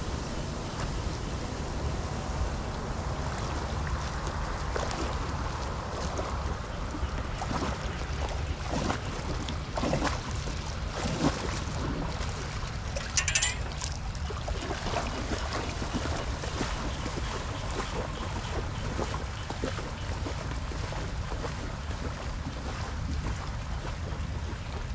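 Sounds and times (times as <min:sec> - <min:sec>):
feet wading through water: 0:02.8 - 0:24.9
water splashing: 0:03.1 - 0:24.9.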